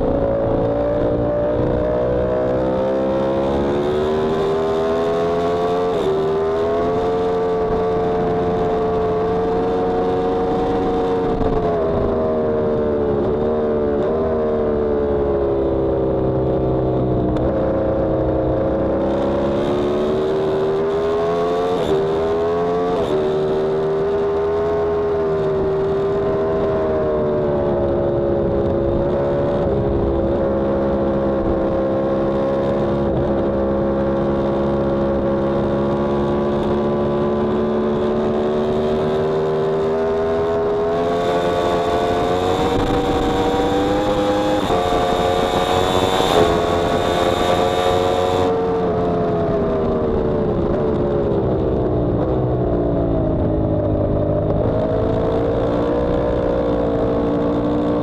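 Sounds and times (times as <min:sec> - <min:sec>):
motorcycle engine revving: 0:00.0 - 0:51.4
wind noise on microphone: 0:00.0 - 0:58.0.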